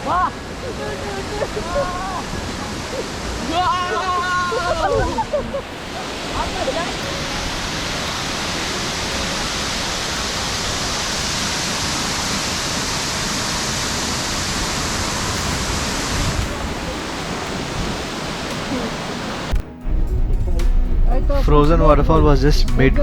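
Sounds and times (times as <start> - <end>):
waterfall rushing: 0.0 - 19.7.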